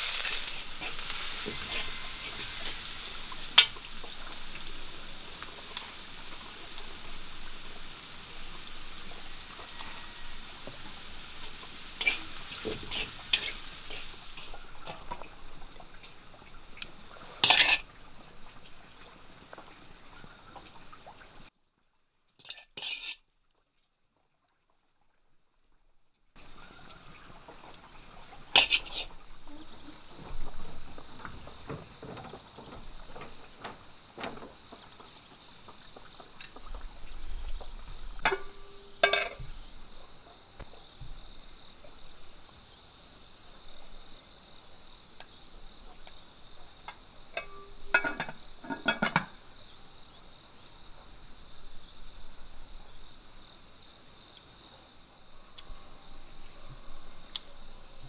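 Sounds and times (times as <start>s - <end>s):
insects buzzing: 0.0s - 21.4s, 26.4s - 58.0s.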